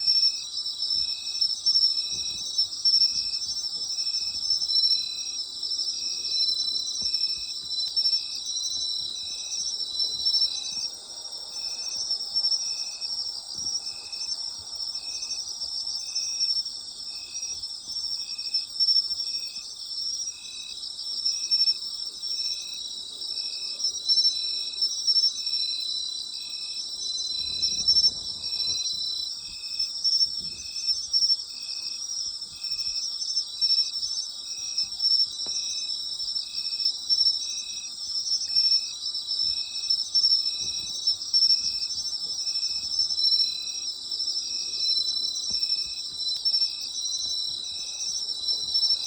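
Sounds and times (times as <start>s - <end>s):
insect chirping rhythmically: 0.0s - 49.0s
insects trilling: 0.0s - 49.0s.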